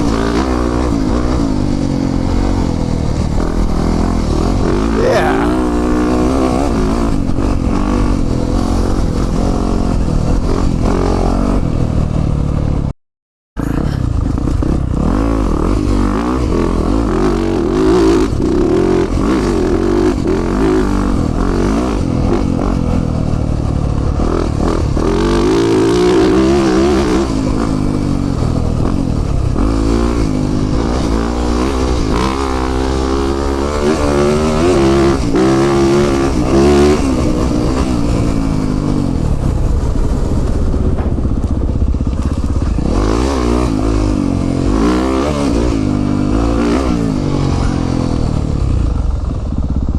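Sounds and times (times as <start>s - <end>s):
dirt bike engine revving: 0.0s - 11.8s, 13.6s - 48.4s.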